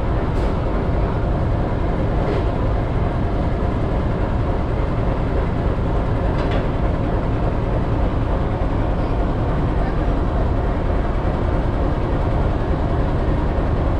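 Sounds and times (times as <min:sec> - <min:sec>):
diesel locomotive engine rumbling: 0:00.0 - 0:13.9.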